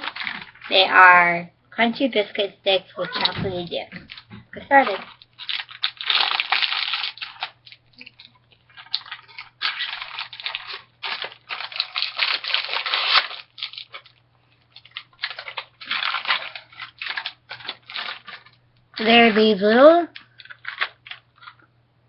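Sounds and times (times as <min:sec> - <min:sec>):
snack packaging crinkling and tearing: 0:00.0 - 0:01.0, 0:03.1 - 0:21.7.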